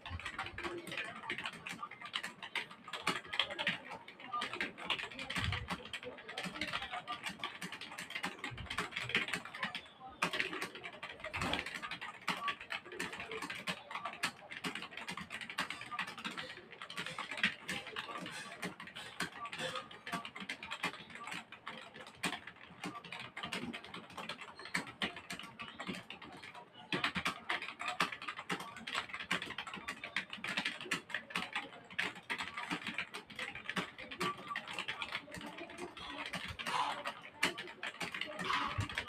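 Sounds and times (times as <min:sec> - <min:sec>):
fast keyboard typing: 0:00.0 - 0:39.0.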